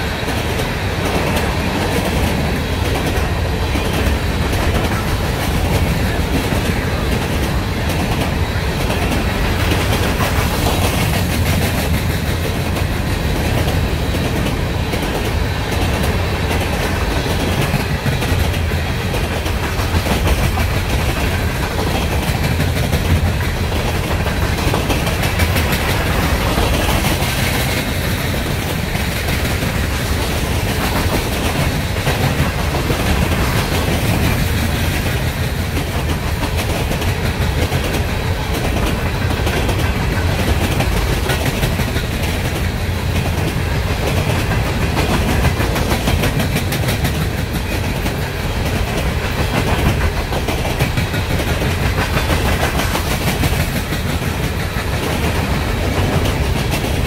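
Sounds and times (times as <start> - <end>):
freight train wheels clattering: 0.0 - 57.0.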